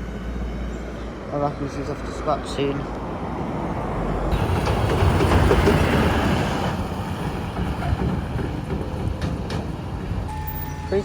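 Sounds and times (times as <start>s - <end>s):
bus passing: 0.0s - 11.0s.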